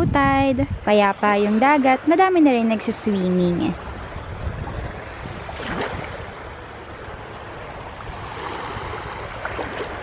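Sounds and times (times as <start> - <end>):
small waves lapping: 0.8 - 10.0.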